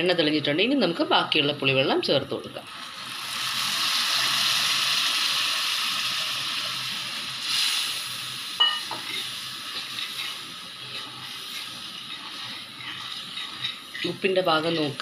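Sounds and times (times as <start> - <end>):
liquid sizzling in hot oil: 2.5 - 15.0.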